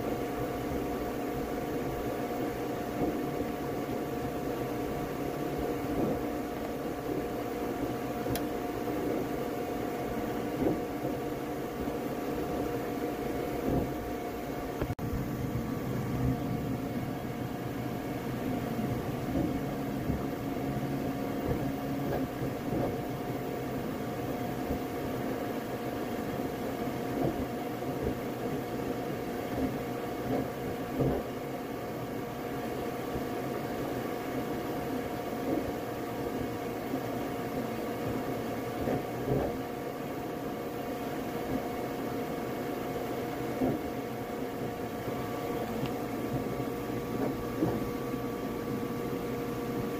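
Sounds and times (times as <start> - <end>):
cooling fans humming: 0.0 - 49.9.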